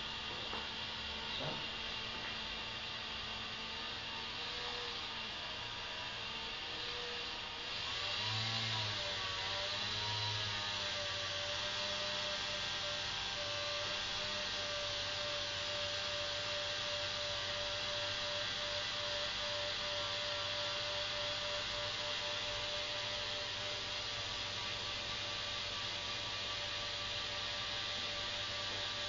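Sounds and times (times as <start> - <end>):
model aircraft propeller motors: 0.0 - 29.0.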